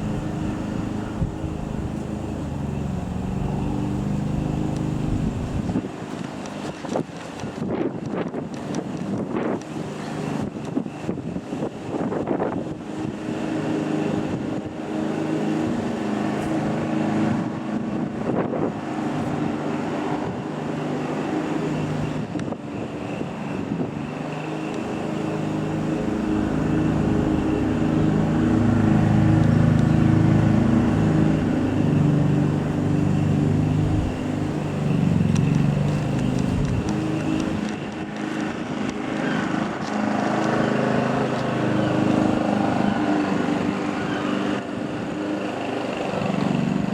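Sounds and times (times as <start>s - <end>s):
lawn mower engine running: 0.0s - 7.6s, 12.6s - 46.9s.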